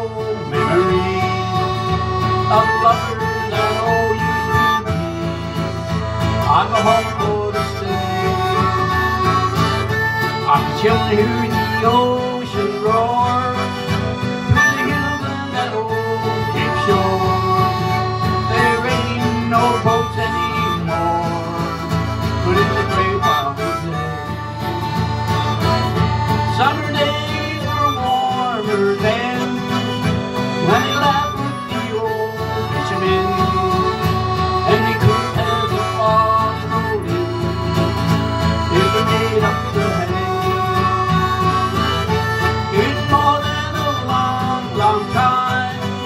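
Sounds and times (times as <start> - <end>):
button accordion chords: 0.0 - 46.0
harmonica: 0.0 - 46.0
strummed acoustic guitar: 0.0 - 46.0.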